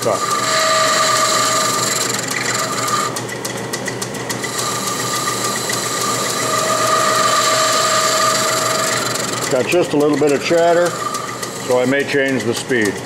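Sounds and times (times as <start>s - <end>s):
lathe running: 0.0s - 13.0s
lathe tool chattering with ringing tone: 0.0s - 13.0s.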